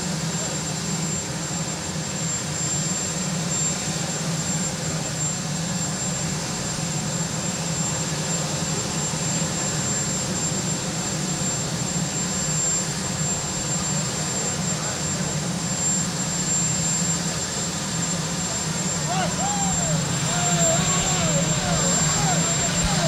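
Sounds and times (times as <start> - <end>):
helicopter engines and rotor: 0.0 - 23.0.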